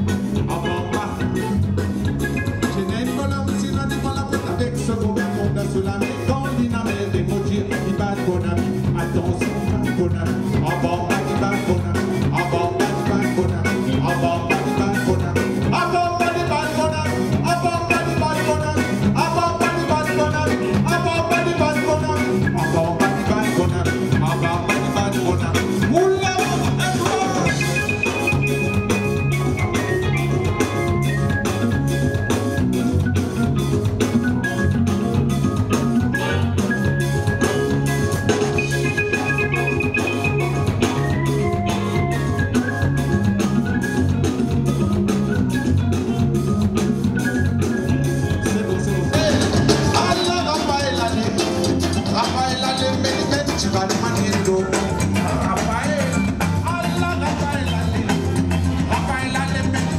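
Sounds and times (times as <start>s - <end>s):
drum kit beat: 0.0s - 59.9s
live band music: 0.0s - 59.9s.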